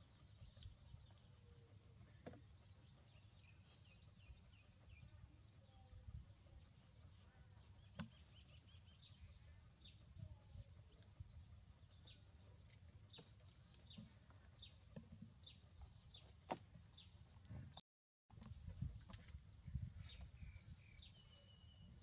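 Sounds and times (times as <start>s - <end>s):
low background rumble: 0.0s - 17.8s.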